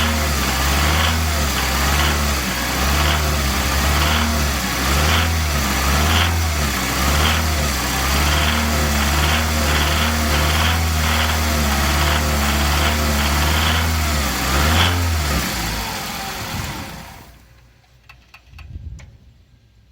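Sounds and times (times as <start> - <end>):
engine knocking: 0.0 - 17.1
car engine revving: 0.0 - 17.4.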